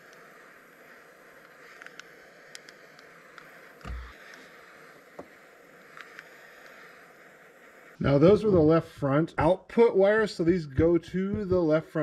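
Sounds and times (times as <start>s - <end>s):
small torch hissing: 0.0s - 12.0s.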